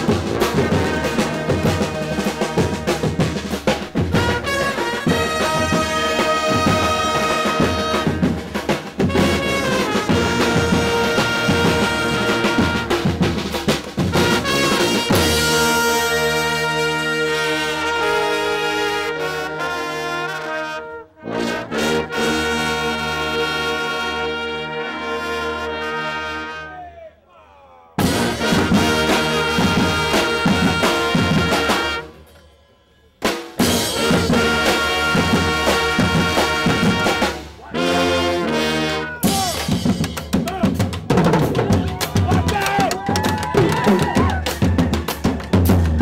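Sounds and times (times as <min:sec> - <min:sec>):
drums: 0:00.0 - 0:19.6, 0:27.9 - 0:46.0
brass band playing: 0:00.0 - 0:27.1, 0:28.0 - 0:32.4, 0:33.2 - 0:46.0.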